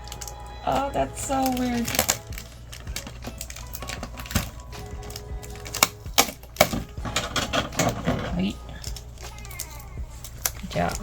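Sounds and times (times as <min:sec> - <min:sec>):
plastic packaging crinkling: 0:00.0 - 0:11.0
plastic parts clicking: 0:00.0 - 0:11.0
quiet background music: 0:00.0 - 0:11.0.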